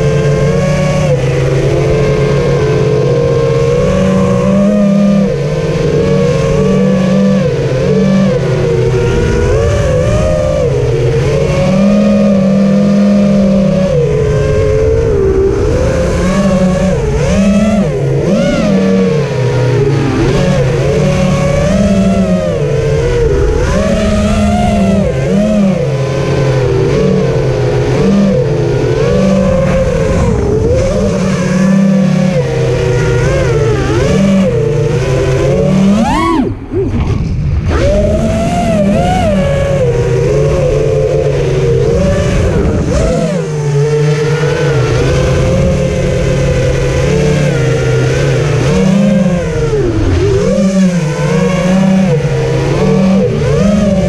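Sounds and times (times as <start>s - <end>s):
drone motors buzzing whine: 0.0s - 54.0s.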